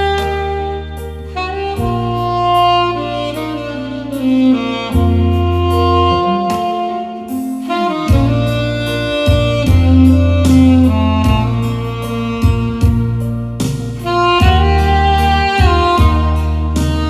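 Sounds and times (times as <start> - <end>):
backing track with bass: 0.0 - 17.0
saxophone slow melody: 0.0 - 17.0.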